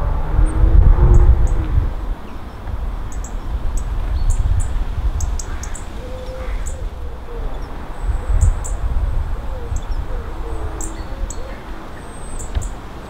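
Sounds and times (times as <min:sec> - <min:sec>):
wind rumble on microphone: 0:00.0 - 0:13.0
songbirds high thin calls: 0:01.1 - 0:13.0.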